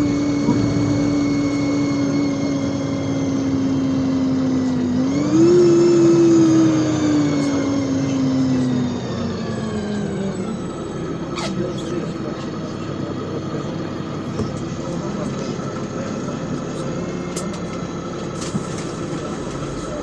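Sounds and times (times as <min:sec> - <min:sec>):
bus drive whine: 0:00.0 - 0:20.0.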